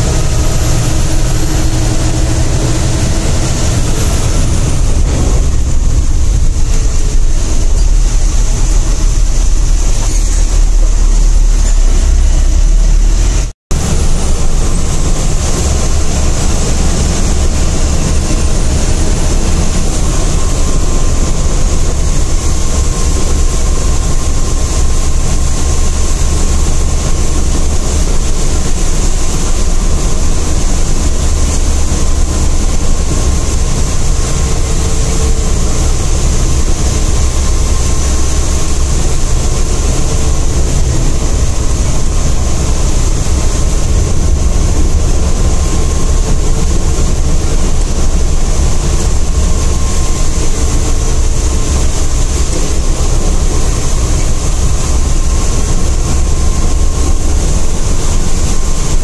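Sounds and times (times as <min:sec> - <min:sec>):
bus engine and road rumble: 0:00.0 - 0:59.0
tyres hissing on wet road: 0:00.0 - 0:59.0.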